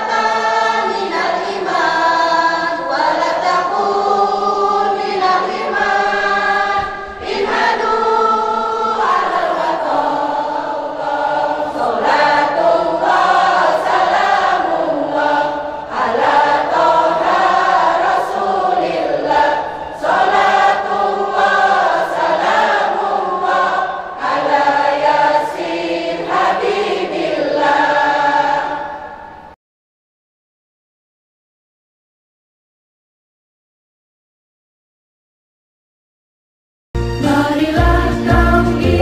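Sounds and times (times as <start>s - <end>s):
women's choir singing: 0.0s - 29.6s, 37.2s - 39.0s.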